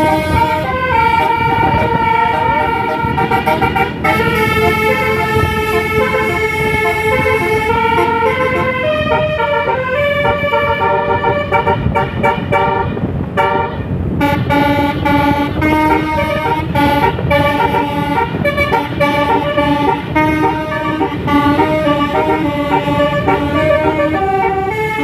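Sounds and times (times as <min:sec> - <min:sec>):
multi-tone bus horn melody: 0:00.0 - 0:25.0.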